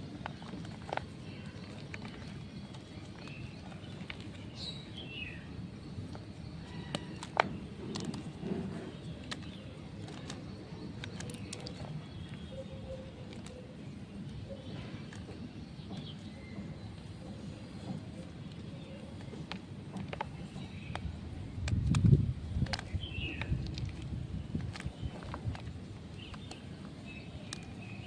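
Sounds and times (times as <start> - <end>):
bird chirp: 0.0 - 28.0.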